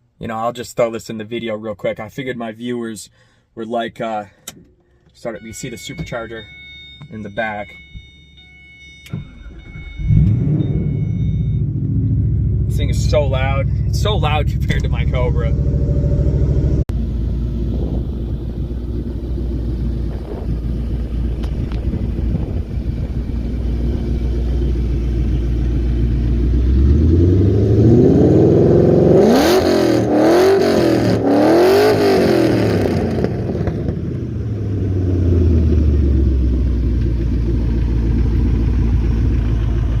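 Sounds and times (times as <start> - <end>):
car engine idling and revving: 4.4 - 40.0.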